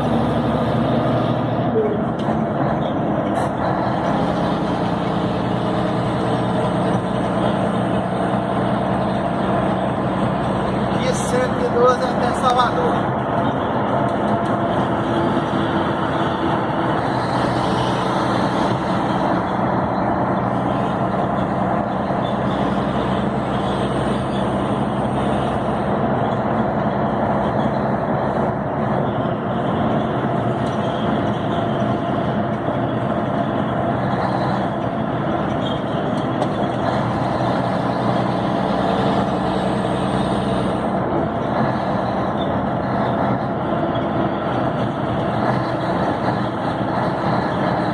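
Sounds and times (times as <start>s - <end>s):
diesel truck engine running: 0.0s - 47.9s
road noise: 0.0s - 47.9s.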